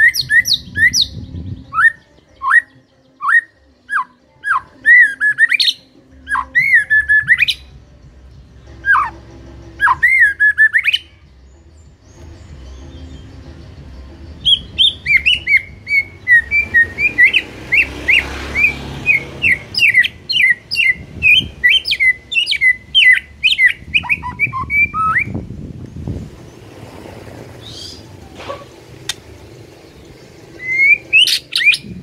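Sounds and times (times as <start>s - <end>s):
bird singing whistled notes: 0.0s - 26.7s, 27.5s - 32.0s.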